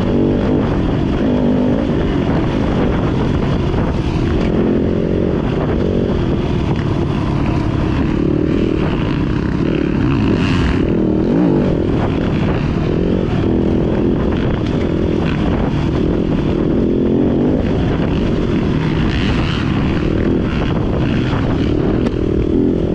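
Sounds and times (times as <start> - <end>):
dirt bike engine revving: 0.0 - 22.9
wind rumble on microphone: 0.0 - 22.9.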